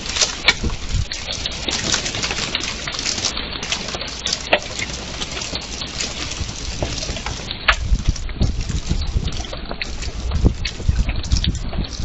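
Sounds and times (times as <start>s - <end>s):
hailstones striking wooden deck: 0.0s - 12.0s
rain hissing: 0.0s - 12.0s.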